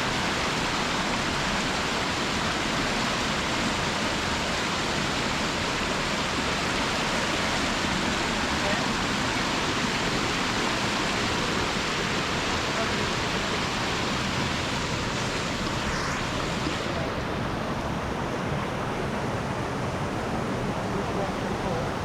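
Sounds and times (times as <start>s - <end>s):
waterfall and stream rushing: 0.0s - 22.0s.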